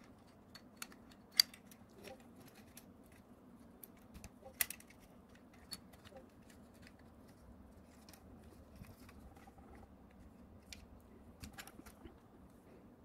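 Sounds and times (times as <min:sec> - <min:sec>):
plastic and metal parts clicking: 0:00.0 - 0:03.2, 0:03.8 - 0:12.2.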